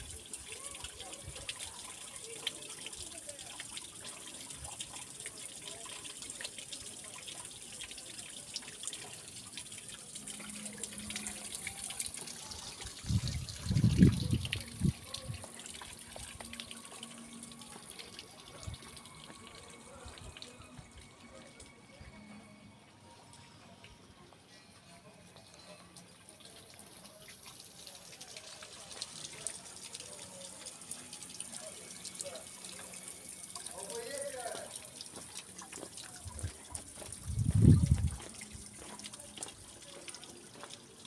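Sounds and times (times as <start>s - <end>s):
fountain water splashing into basin: 0.0s - 22.0s, 25.6s - 41.0s.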